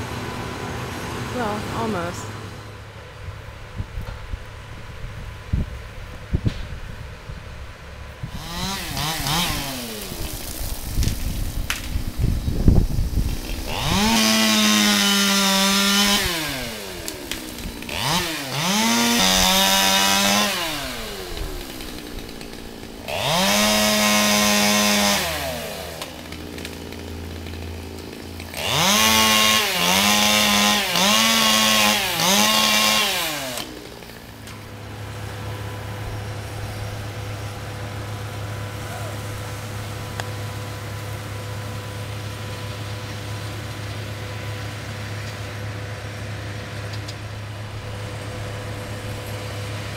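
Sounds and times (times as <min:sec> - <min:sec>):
chainsaw revving and idling: 0:08.2 - 0:49.9.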